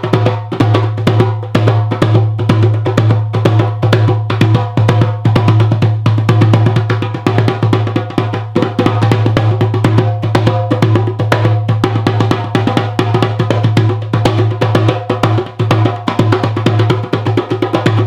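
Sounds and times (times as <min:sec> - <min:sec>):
drum in fast rhythm: 0:00.0 - 0:18.0.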